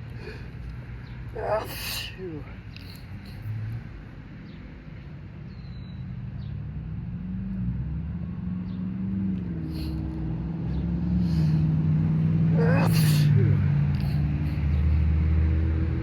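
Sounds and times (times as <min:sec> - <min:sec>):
passing motor vehicle rumble: 0:00.0 - 0:16.0.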